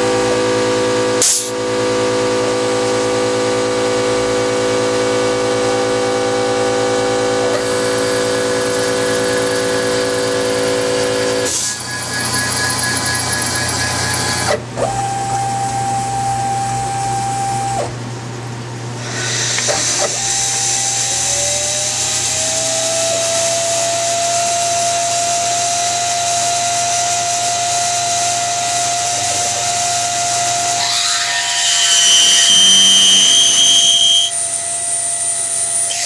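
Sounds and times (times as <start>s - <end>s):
milling machine spindle whine: 0.0s - 18.0s, 19.0s - 36.0s.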